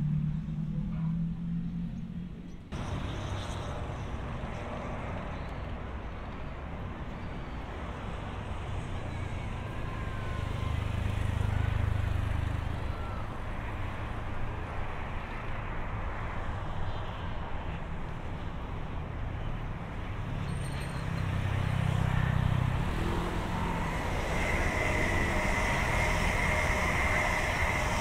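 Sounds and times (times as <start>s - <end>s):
road traffic: 0.0s - 28.0s
distant electric train passing: 2.8s - 28.0s.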